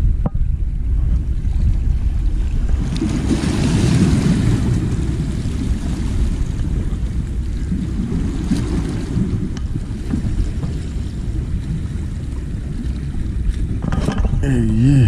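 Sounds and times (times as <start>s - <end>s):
wind buffeting microphone: 0.0s - 14.4s
waves splashing against rocks: 1.8s - 15.0s.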